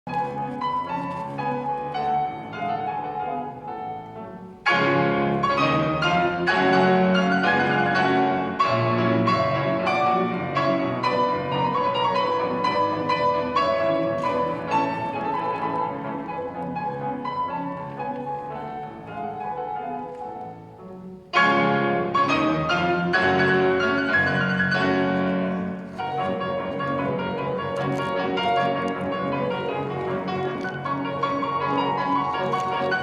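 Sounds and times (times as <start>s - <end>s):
piano duet: 0.1s - 33.0s.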